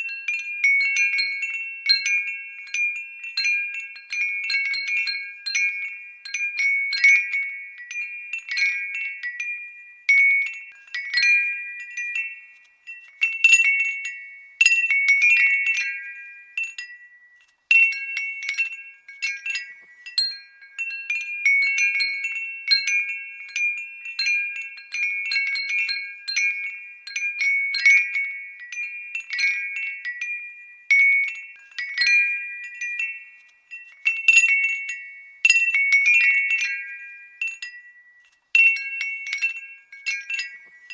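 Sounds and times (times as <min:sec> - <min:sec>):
glass wind bell tinkling: 0:00.0 - 0:40.9.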